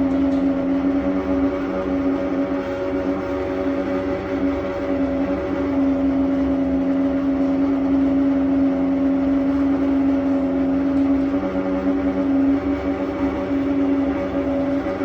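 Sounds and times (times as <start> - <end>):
gas boiler humming: 0.0 - 15.0.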